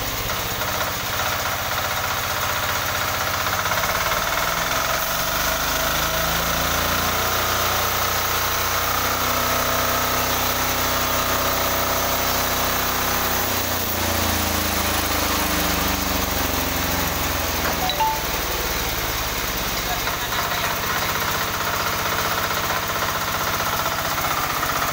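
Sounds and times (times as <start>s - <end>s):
diesel engine running: 0.0s - 9.0s, 13.2s - 24.9s.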